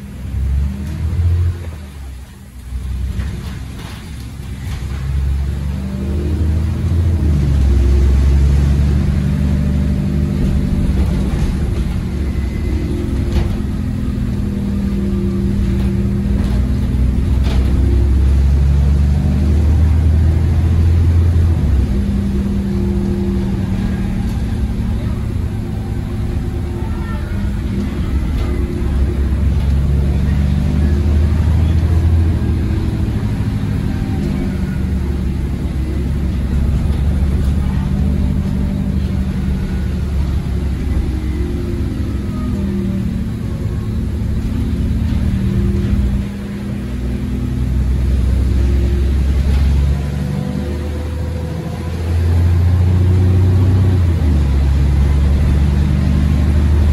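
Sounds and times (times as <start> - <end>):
bus diesel engine: 0.0 - 56.9
road and tyre rumble: 0.0 - 56.9.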